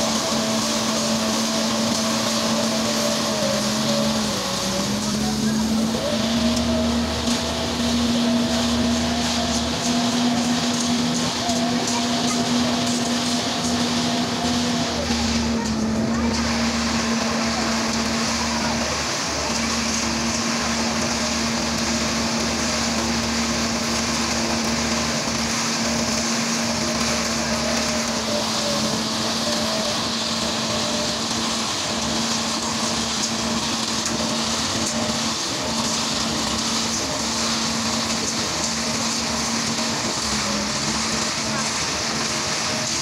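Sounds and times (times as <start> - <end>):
concrete mixer running: 0.0 - 43.0.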